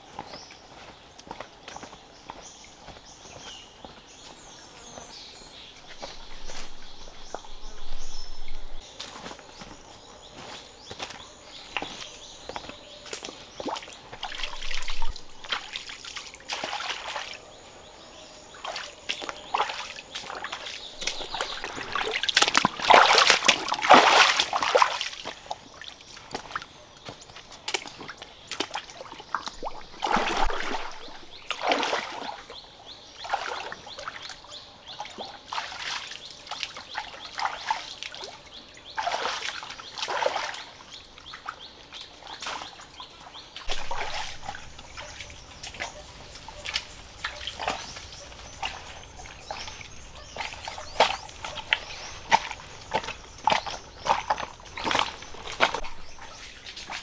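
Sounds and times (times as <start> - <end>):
stream trickling: 0.0 - 57.0
boots splashing in water: 5.8 - 9.8, 10.5 - 17.4, 18.6 - 32.6, 33.2 - 42.9, 43.6 - 57.0.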